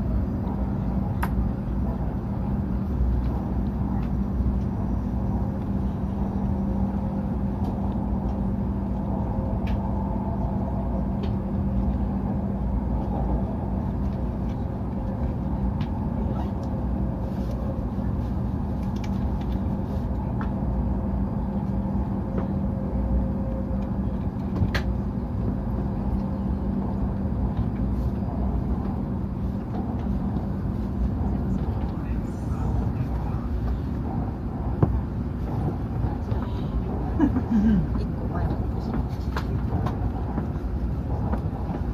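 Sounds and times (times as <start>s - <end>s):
train running rumble: 0.0s - 41.9s.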